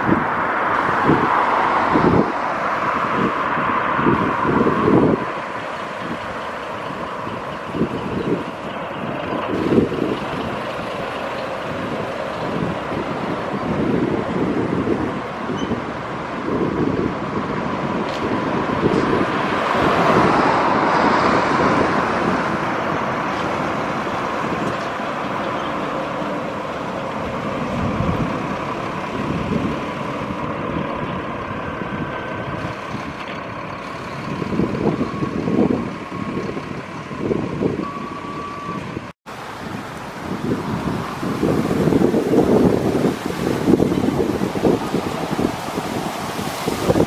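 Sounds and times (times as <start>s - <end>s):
buses driving past: 0.0s - 47.0s
road and traffic noise: 0.0s - 47.0s
wind gusts on microphone: 0.0s - 47.0s.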